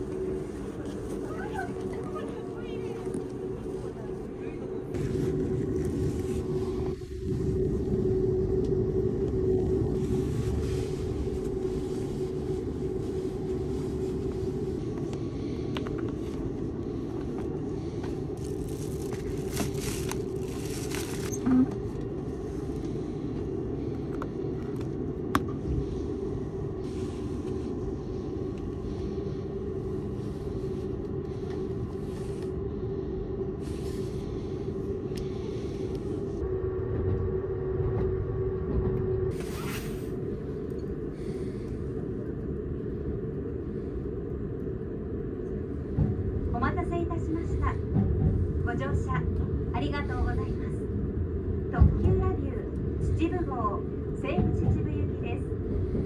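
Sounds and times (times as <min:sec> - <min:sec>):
train car low hum: 0:00.0 - 0:56.0.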